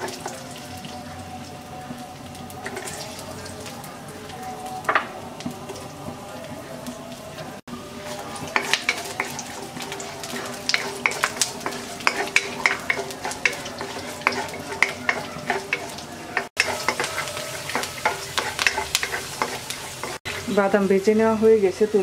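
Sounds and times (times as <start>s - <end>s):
almonds sizzling in oil: 0.0s - 22.0s.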